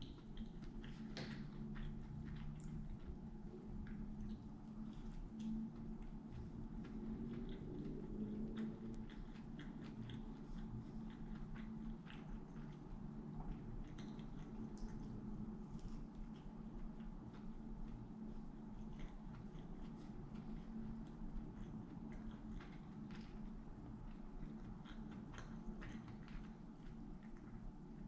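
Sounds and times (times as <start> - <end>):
person chewing: 0.0 - 27.6
steady low hum: 0.0 - 28.0.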